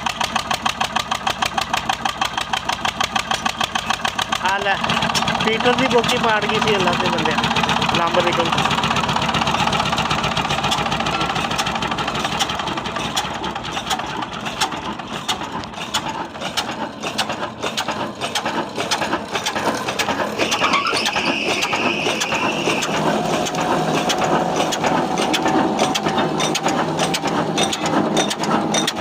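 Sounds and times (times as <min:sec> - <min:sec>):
diesel engine clattering: 0:00.0 - 0:29.0.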